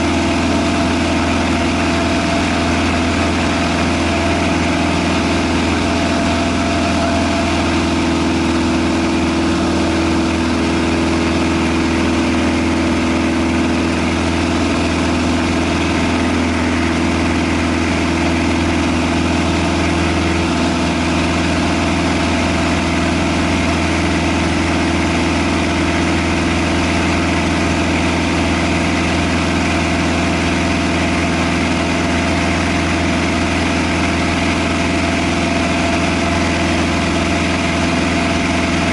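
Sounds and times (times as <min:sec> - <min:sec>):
propeller plane engine running: 0:00.0 - 0:38.9.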